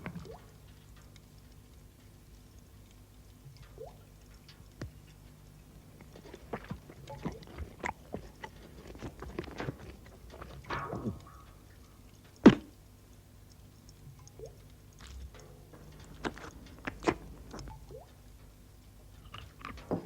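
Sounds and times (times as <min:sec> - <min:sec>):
small clicks and crunchy knocks: 0:00.0 - 0:20.0.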